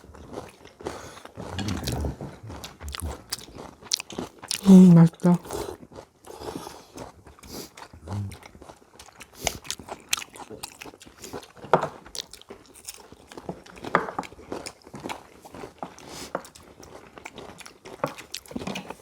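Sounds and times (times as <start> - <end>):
people crunching and chewing food: 0.0 - 19.0.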